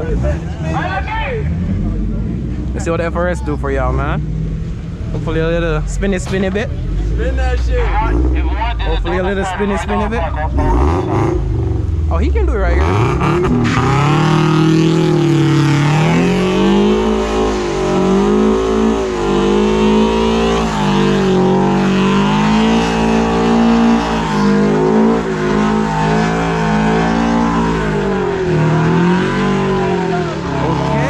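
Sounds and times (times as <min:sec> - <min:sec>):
car engine at high revs: 0:00.0 - 0:31.0.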